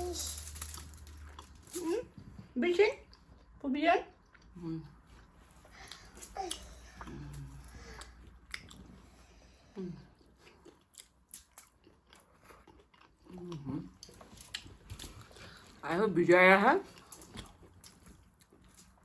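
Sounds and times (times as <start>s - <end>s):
chewing and crunching: 0.7s - 15.8s, 16.8s - 19.0s.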